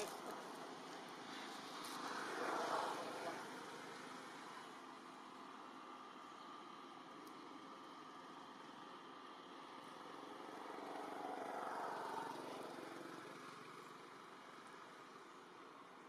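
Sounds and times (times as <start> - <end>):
passing vehicle engine: 0.0 - 6.8, 9.4 - 15.5.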